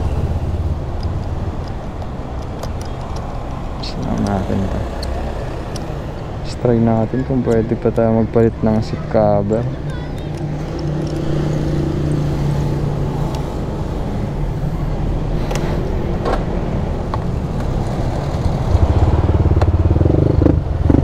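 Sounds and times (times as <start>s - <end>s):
road and traffic noise: 0.0s - 21.0s.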